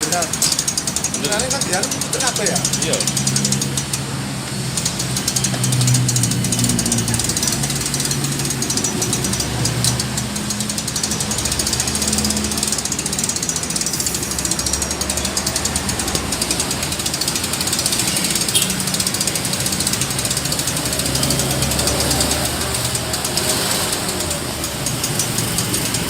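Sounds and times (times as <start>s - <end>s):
diesel engine running: 0.0s - 26.0s
shredder mechanical clatter: 4.7s - 26.0s.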